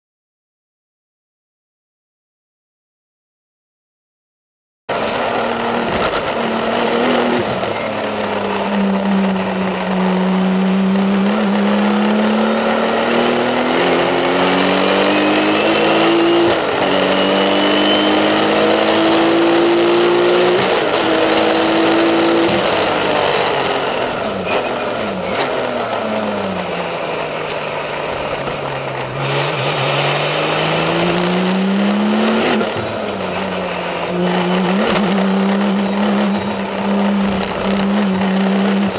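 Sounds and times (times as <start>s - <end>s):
race car engine at full throttle: 4.9s - 38.9s.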